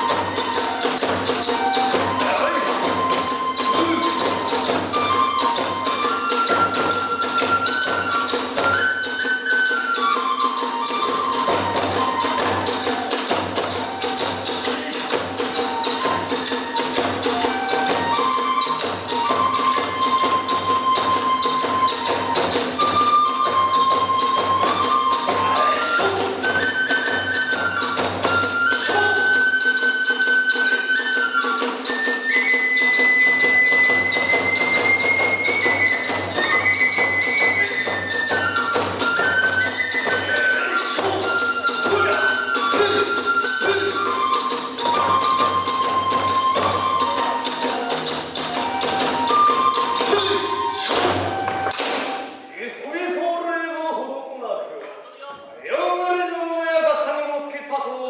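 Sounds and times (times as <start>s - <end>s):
fast drumming: 0.0s - 52.4s
bamboo flute long notes: 0.0s - 52.6s.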